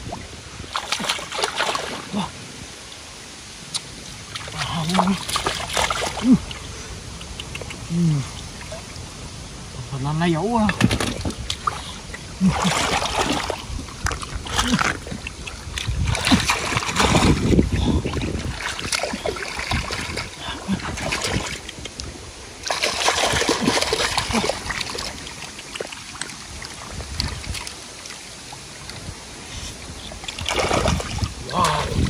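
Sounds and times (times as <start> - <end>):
water splashing and sloshing: 0.0 - 32.0
water trickling: 0.0 - 32.0.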